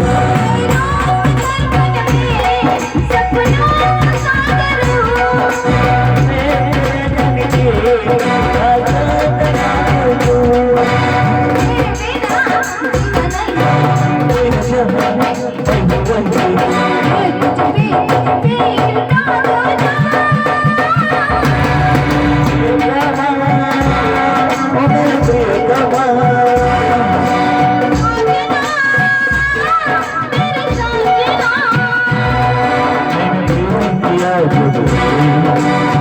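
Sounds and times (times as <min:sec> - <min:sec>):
devotional folk singing: 0:00.0 - 0:17.9, 0:20.3 - 0:36.0
drum beat: 0:00.0 - 0:36.0.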